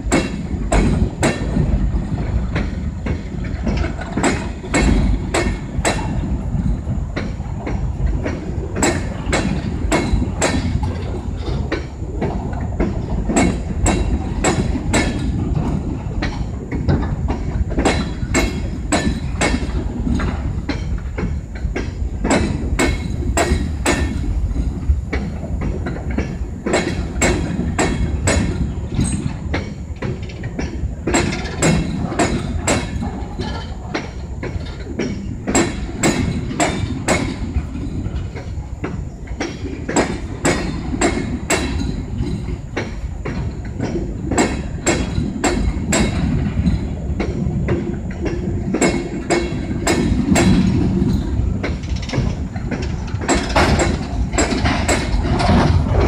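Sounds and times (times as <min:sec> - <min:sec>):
wheels clacking over rail joints: 0:00.0 - 0:56.0.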